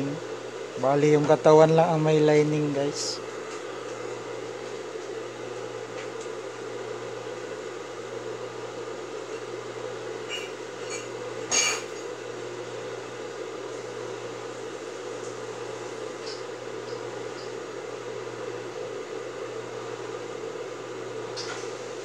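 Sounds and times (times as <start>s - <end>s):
electric motor hum: 0.0s - 22.0s.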